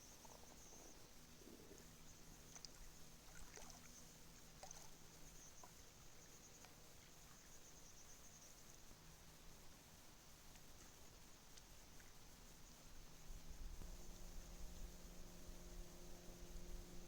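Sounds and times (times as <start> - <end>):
faint ticks: 0.0 - 8.5, 10.4 - 17.0.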